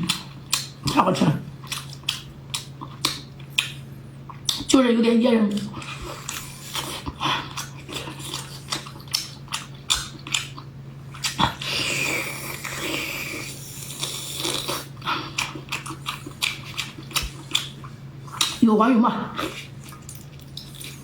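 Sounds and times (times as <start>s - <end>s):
chewing and biting food: 0.0s - 1.0s, 1.6s - 4.7s, 5.6s - 18.6s, 19.4s - 21.0s.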